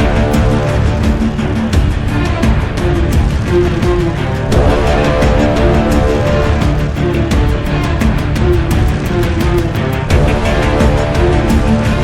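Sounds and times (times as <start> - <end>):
background music: 0.0 - 12.0
drum hits: 0.0 - 12.0.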